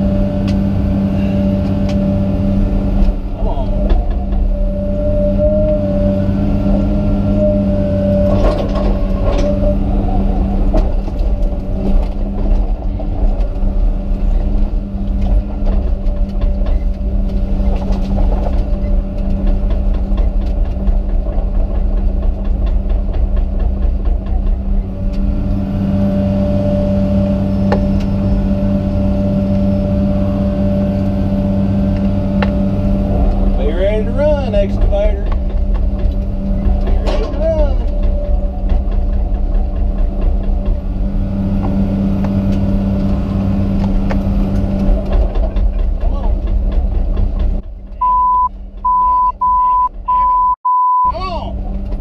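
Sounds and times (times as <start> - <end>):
excavator diesel engine running: 0.0 - 50.5.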